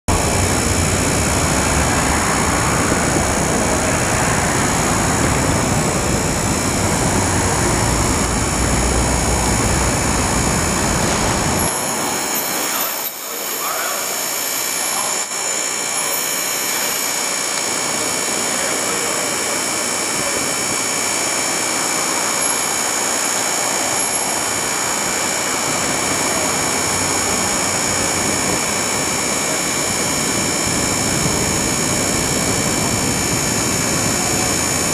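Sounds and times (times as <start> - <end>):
city street traffic roar: 0.1 - 17.0, 20.2 - 34.9.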